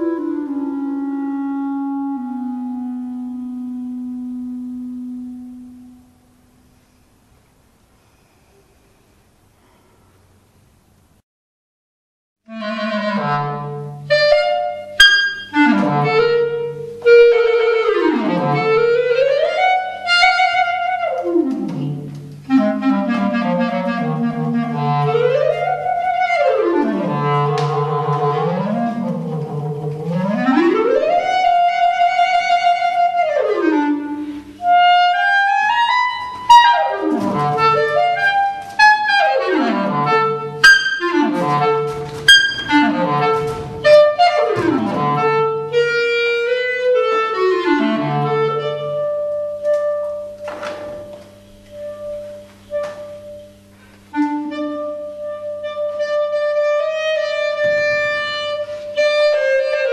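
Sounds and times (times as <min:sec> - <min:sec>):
solo clarinet: 0:00.0 - 0:06.6, 0:12.5 - 0:59.9.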